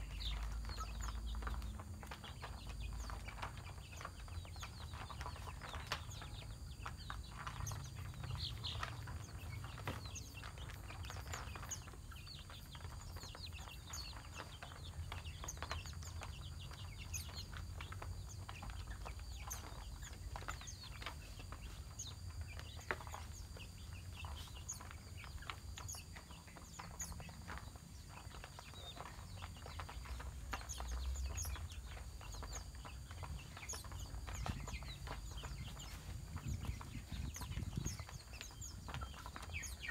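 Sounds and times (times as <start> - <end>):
chickens clucking: 0.0 - 39.9
songbirds chirping: 0.0 - 39.9.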